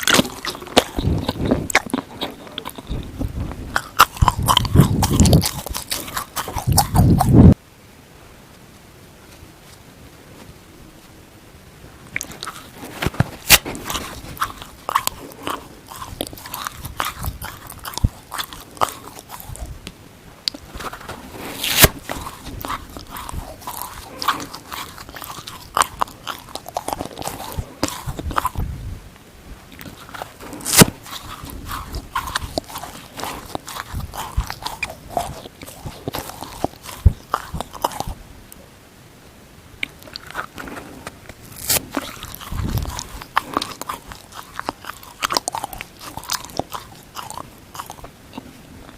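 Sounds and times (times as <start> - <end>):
sponge being bitten and chewed: 0.0 - 7.6, 12.1 - 28.7, 29.7 - 38.2, 39.8 - 48.9.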